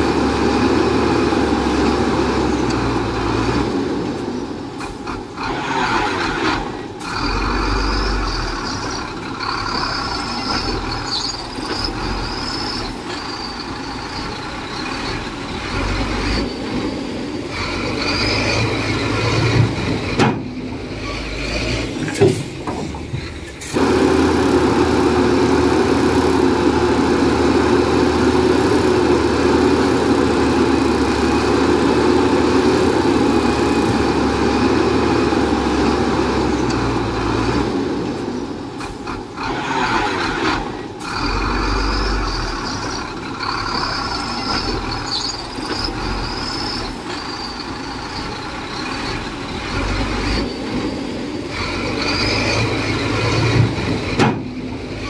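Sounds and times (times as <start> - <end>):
diesel machinery engine running: 0.0 - 55.0.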